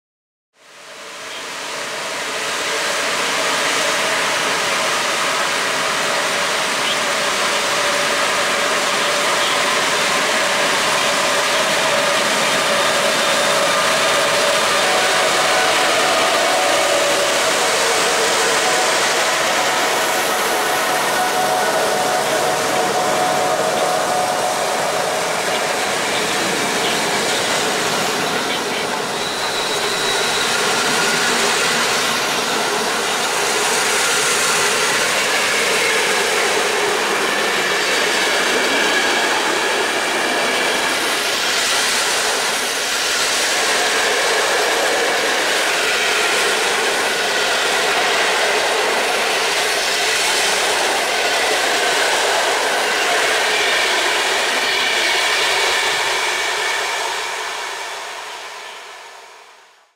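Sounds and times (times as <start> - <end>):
train wheels on rails: 0.7 - 59.9.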